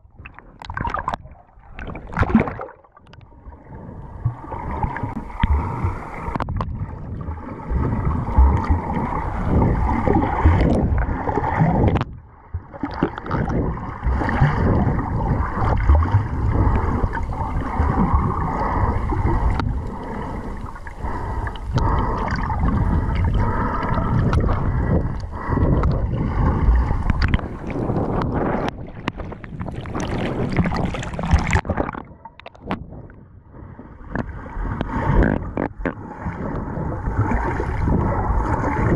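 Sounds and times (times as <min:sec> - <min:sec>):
underwater gurgling and sloshing: 0:00.0 - 0:38.9.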